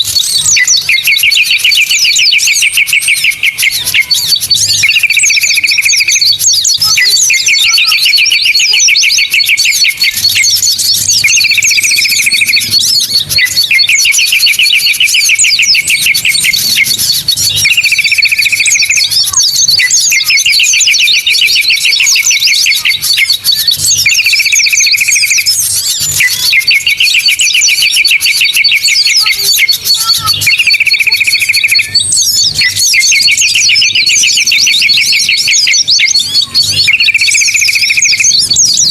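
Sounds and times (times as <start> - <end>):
bird call and fast trill: 0.0 - 38.9
songbirds chirping: 0.0 - 38.9.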